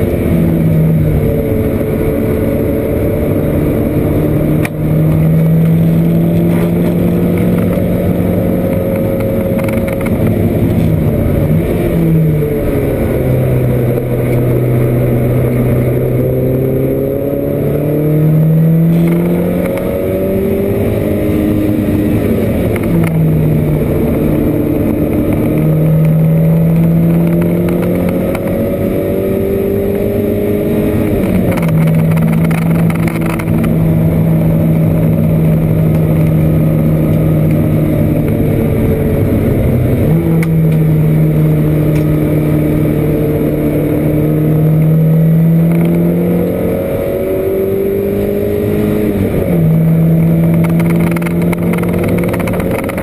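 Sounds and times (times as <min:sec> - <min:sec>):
racing car engine revving: 0:00.0 - 0:53.0.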